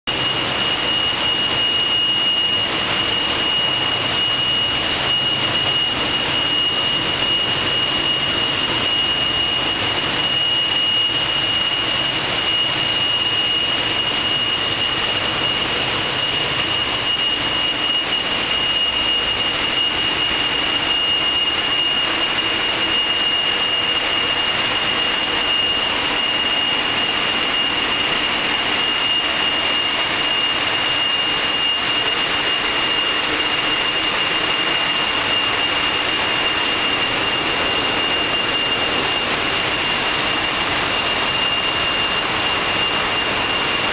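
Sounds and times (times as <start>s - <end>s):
ship engine room din: 0.1s - 43.9s
steady high whine: 0.1s - 43.9s.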